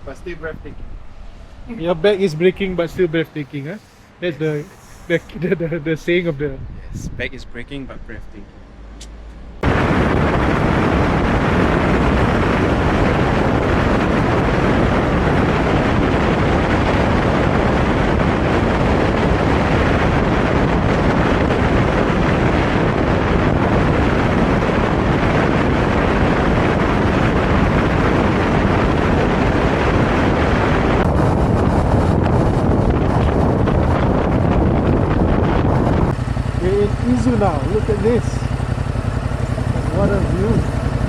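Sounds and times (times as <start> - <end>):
wind buffeting microphone: 0.0 - 8.1, 8.7 - 41.0.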